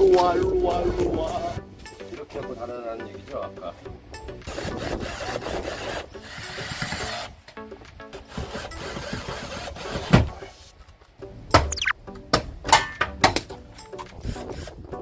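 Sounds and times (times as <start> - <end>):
background music: 0.0 - 10.3, 11.2 - 15.0.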